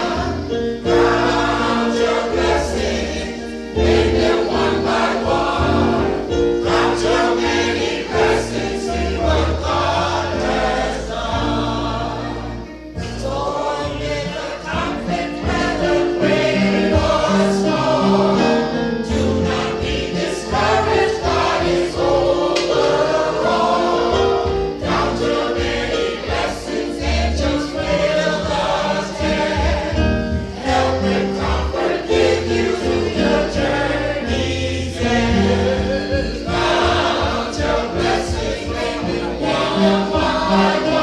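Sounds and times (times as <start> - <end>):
choir singing a gospel hymn: 0.0 - 41.0
instrumental accompaniment: 0.0 - 41.0.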